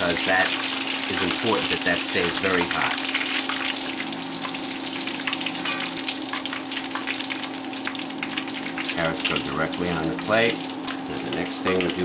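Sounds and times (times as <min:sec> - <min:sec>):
deep-frying sizzle in oil: 0:00.0 - 0:12.0.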